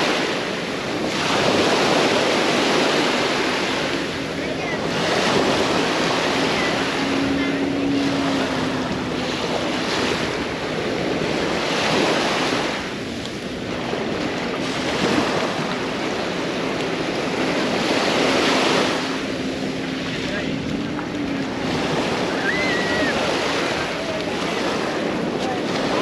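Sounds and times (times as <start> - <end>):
small waves breaking on sand: 0.0 - 26.0.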